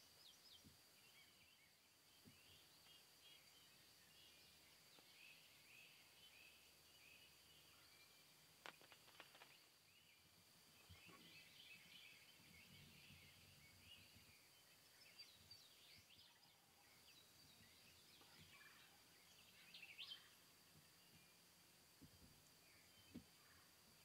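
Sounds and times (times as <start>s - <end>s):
faint high whine: 0.0s - 24.0s
songbird chirps: 0.0s - 24.0s.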